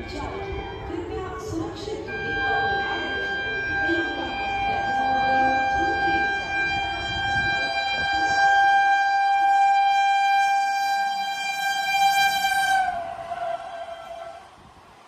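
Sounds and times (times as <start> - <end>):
train horn long blast: 0.0 - 14.8.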